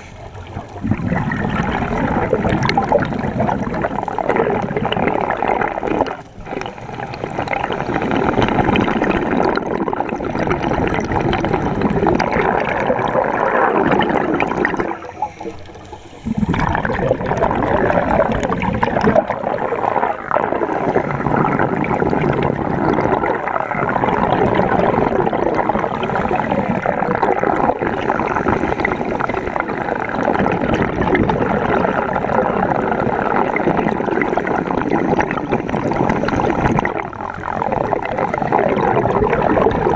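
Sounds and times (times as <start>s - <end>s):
scuba exhaust bubbles: 0.0s - 39.9s
underwater rushing water: 0.0s - 39.9s.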